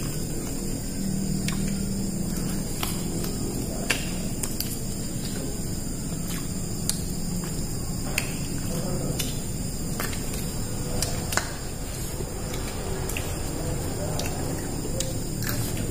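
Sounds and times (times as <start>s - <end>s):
crunching raw vegetables: 0.0s - 15.9s
steady high whine: 0.0s - 15.9s.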